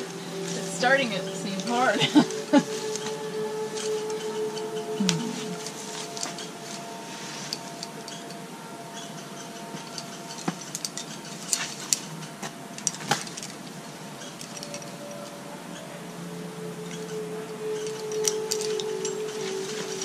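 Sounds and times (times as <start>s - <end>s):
small metal pieces clinking: 0.0s - 8.4s, 9.5s - 15.4s, 16.9s - 20.0s.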